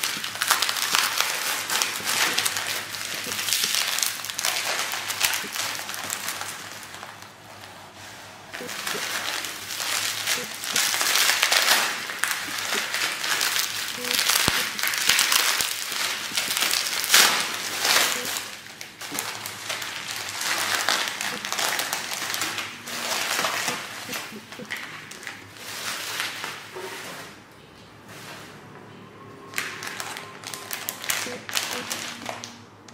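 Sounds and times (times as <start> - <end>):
bubble wrap crinkling: 0.0 - 27.4, 29.5 - 32.6.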